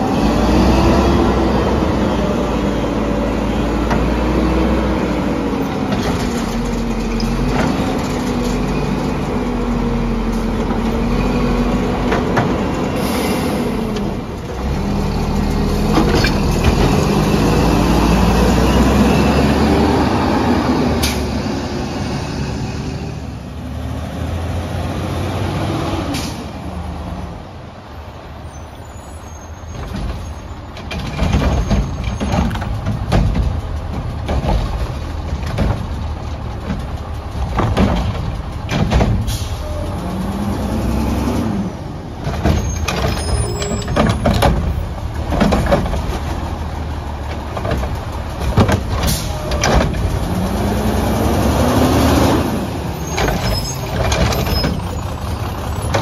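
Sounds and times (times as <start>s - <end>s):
garbage truck engine revving: 0.0s - 27.1s, 31.0s - 56.0s.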